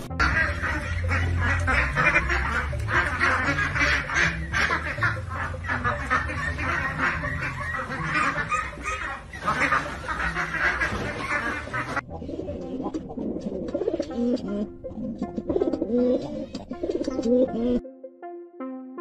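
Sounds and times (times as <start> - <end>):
flock of ducks quacking: 0.0 - 17.4.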